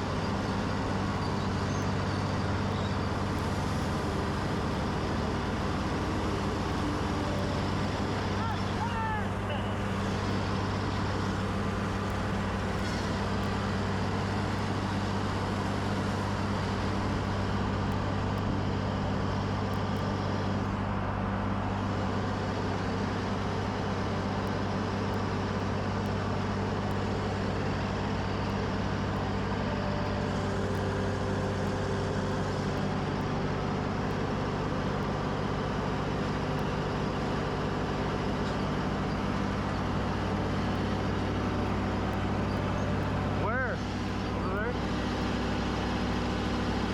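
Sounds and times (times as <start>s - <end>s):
skid steer engine running: 0.0s - 46.9s.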